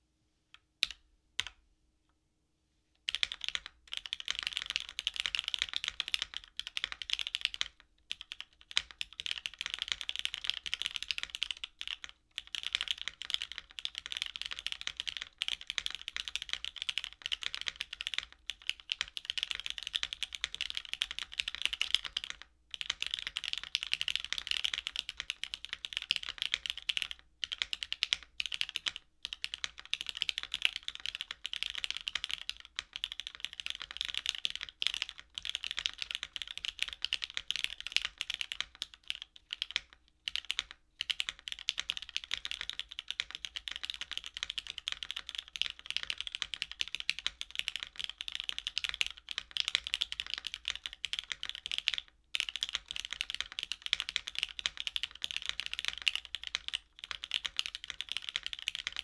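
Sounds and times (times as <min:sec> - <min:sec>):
mechanical keyboard typing: 0:03.1 - 0:59.0.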